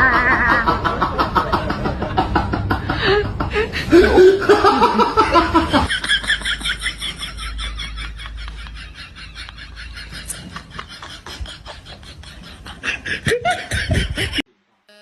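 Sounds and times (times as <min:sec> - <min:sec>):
person laughing: 0:00.0 - 0:14.4
rapid rhythmic snickering: 0:00.4 - 0:14.4.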